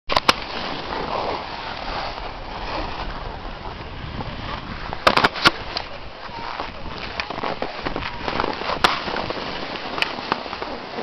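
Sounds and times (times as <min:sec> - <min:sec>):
skis sliding over snow: 0:00.1 - 0:11.0
wind on microphone: 0:00.3 - 0:11.0.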